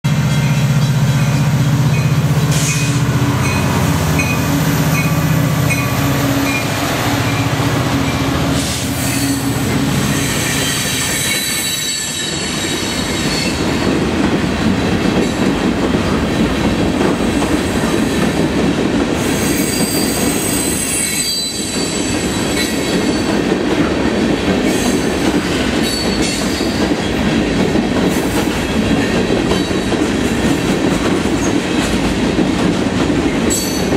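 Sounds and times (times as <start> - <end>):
diesel locomotive engine drone: 0.0 - 33.9
train cars rattling: 0.1 - 33.9.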